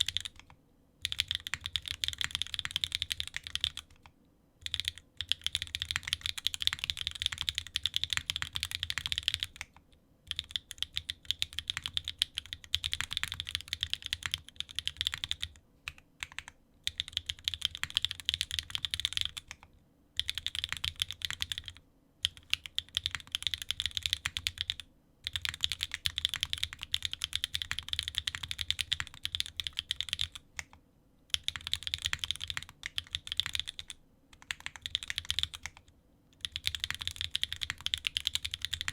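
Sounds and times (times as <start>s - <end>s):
mechanical keyboard typing: 0.0s - 19.6s, 20.2s - 38.9s.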